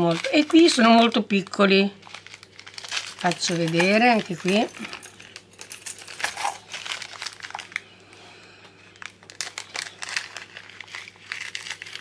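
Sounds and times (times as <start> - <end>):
plastic bag crinkling: 0.0 - 8.2, 8.8 - 12.0.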